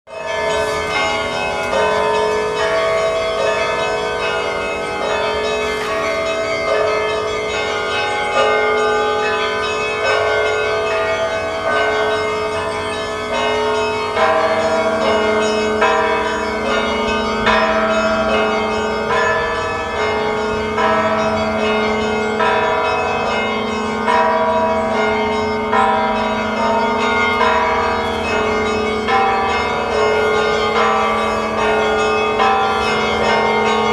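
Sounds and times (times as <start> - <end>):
deep bell ringing: 0.1 - 33.9
small church bells ringing: 0.1 - 33.9.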